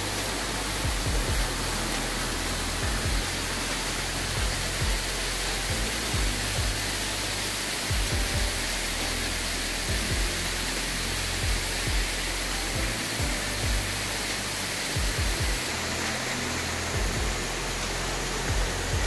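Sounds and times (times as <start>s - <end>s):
music with low bass thuds: 0.0s - 19.0s
waterfall rushing over rock: 0.0s - 19.0s.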